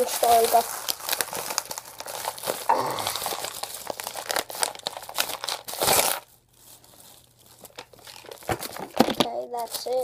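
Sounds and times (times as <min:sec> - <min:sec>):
plastic bag crinkling and tearing: 0:00.0 - 0:10.0.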